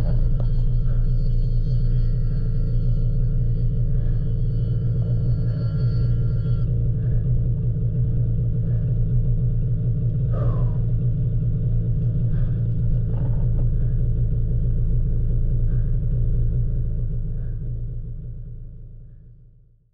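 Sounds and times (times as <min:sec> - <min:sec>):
snowmobile engine droning: 0:00.0 - 0:19.5.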